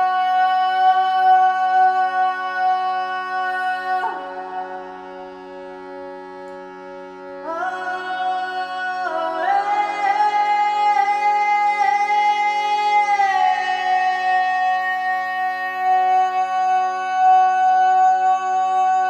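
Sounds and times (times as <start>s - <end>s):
person singing long notes: 0.0s - 19.0s.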